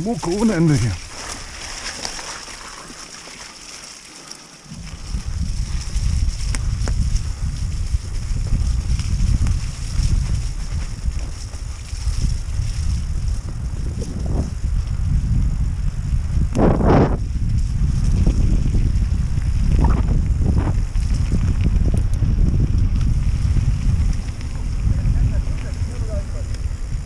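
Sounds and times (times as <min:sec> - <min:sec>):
wind buffeting microphone: 0:04.7 - 0:27.0.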